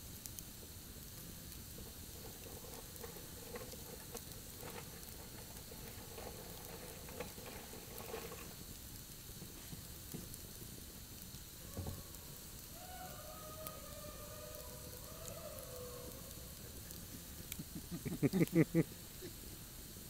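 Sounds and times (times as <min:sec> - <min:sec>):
campfire crackling: 0:00.0 - 0:20.0
sharp pops from fire: 0:00.0 - 0:20.0.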